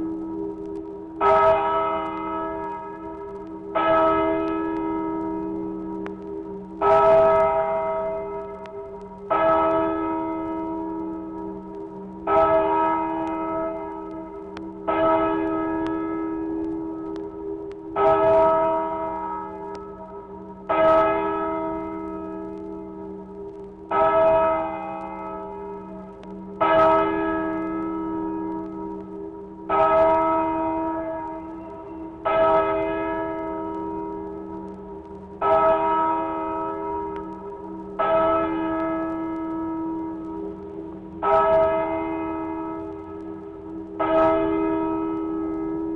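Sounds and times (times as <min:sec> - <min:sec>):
church bell tolling: 0:00.0 - 0:45.9.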